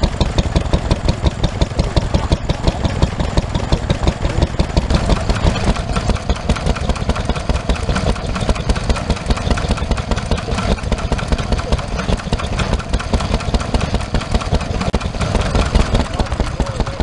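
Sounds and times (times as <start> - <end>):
stationary engines idling: 0.0 - 17.0.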